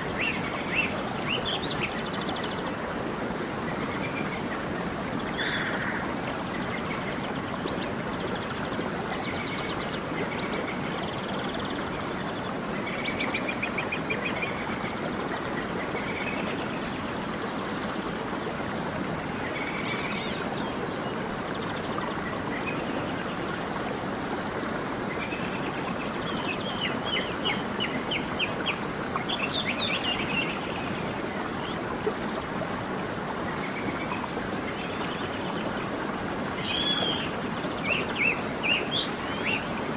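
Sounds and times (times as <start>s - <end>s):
small stream running: 0.0s - 39.9s.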